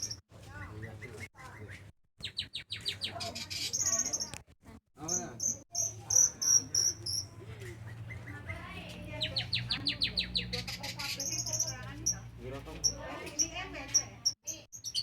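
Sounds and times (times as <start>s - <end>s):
songbird singing: 0.0s - 4.4s, 5.0s - 15.0s.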